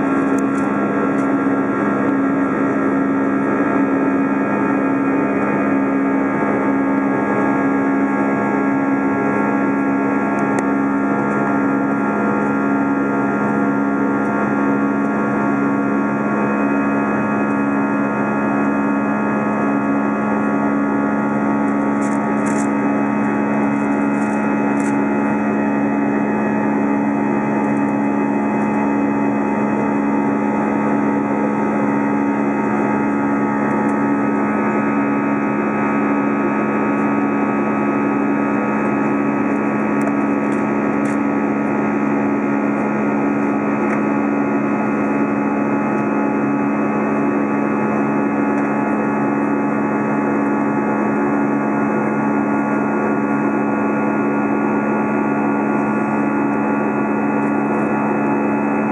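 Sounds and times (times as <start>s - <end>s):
jet engine and airflow noise: 0.0s - 58.9s
low hum: 0.0s - 58.9s.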